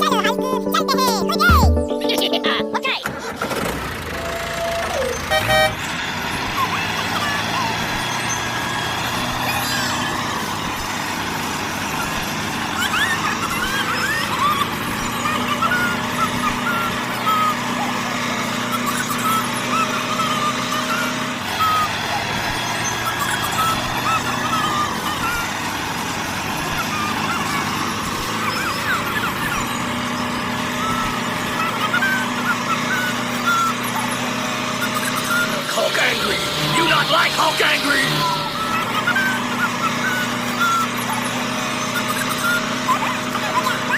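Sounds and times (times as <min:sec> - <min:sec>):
tractor motor humming: 0:00.0 - 0:43.9.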